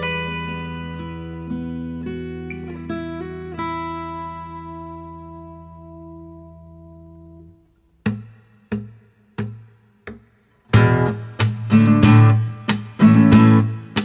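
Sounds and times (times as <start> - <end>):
acoustic guitar plucked notes: 0.0 - 14.0
acoustic guitar strummed chords: 0.0 - 14.0.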